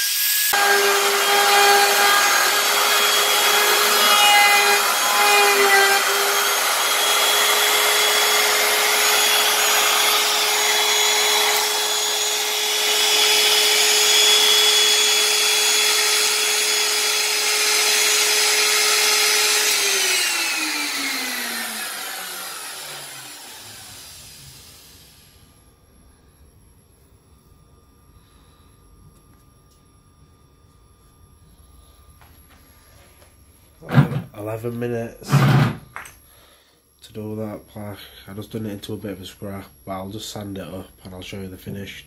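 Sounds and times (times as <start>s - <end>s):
router spindle whine: 0.0s - 35.8s.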